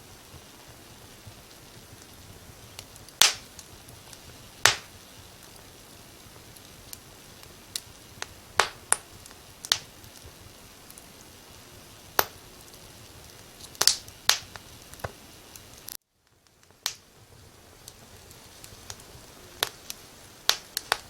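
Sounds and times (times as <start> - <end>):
steady hiss: 0.0 - 21.0
wood fire crackling: 0.0 - 21.0.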